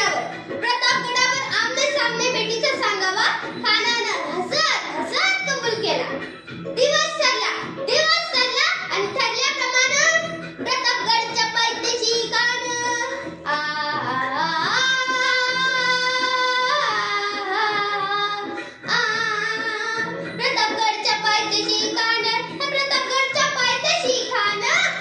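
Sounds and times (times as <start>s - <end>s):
child singing in high voice: 0.0s - 6.1s, 6.8s - 25.0s.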